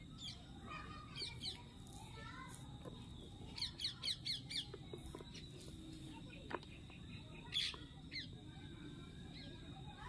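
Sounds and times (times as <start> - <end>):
bird chirping: 0.0 - 2.0, 2.7 - 10.0.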